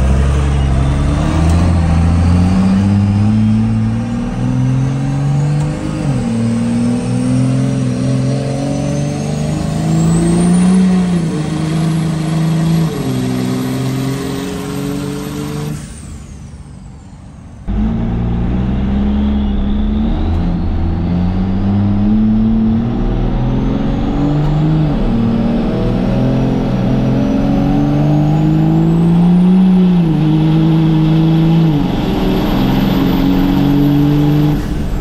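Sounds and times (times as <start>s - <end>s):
diesel engine accelerating: 0.0s - 35.0s.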